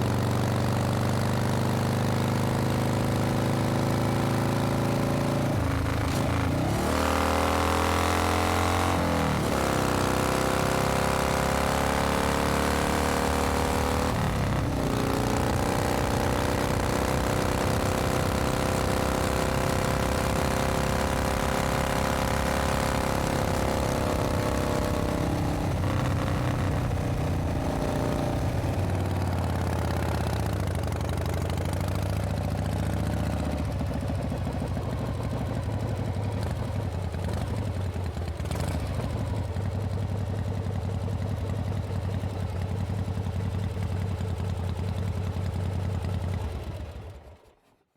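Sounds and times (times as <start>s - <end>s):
motorcycle engine running: 0.0s - 47.6s.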